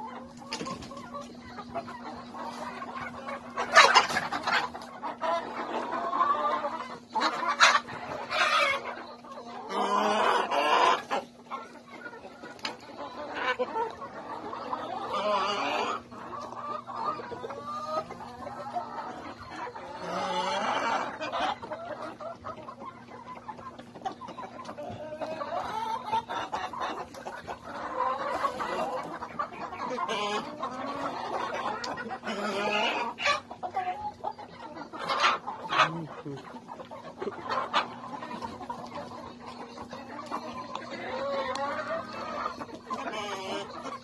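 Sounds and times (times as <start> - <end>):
hens clucking: 0.0 - 44.0.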